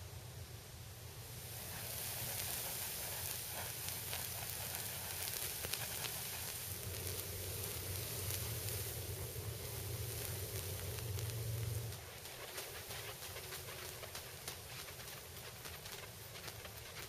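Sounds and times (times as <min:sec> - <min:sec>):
burning steel wool sparking hiss: 0:00.5 - 0:17.0
sharp crackles: 0:01.3 - 0:17.0.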